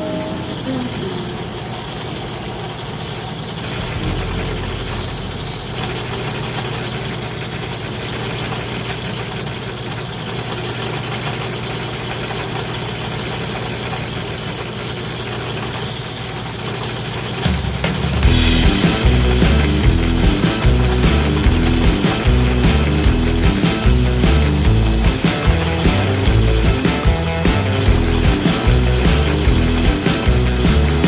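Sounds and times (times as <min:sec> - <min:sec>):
drill press motor hum: 0:00.0 - 0:31.0.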